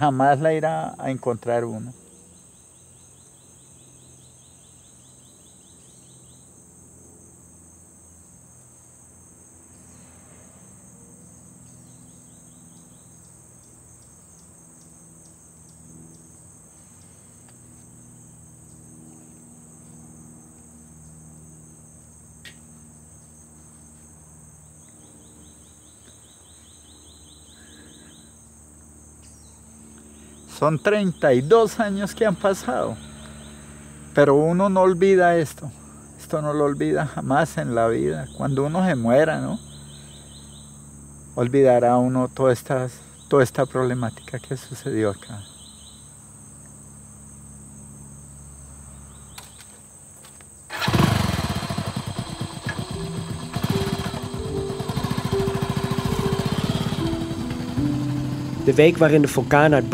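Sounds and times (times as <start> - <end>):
insects shrilling drone: 0.0 - 59.9
pulsed cricket trills: 0.0 - 59.9.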